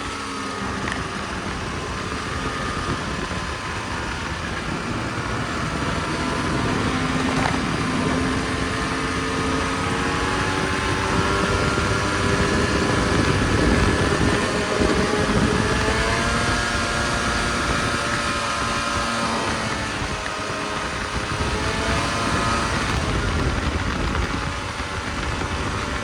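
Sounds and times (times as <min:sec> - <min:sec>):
snowmobile engine running: 0:00.0 - 0:26.0
steady rushing noise: 0:00.0 - 0:26.0.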